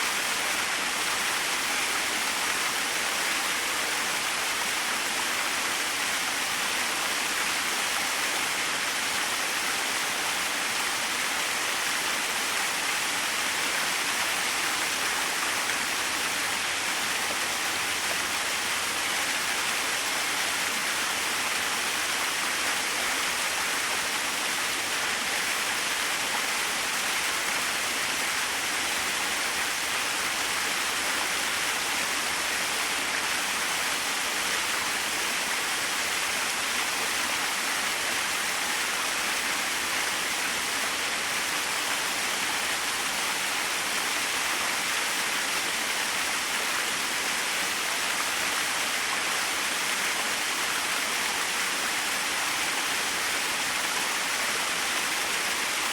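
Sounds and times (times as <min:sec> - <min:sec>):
small waterfall splashing: 0:00.0 - 0:55.9.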